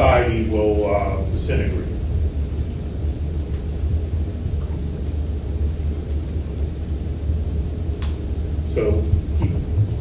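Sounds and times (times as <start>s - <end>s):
low room rumble: 0.0s - 10.0s.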